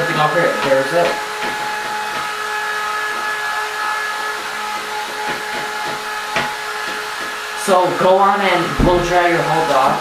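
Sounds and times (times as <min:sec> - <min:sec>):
hair dryer running: 0:00.0 - 0:10.0.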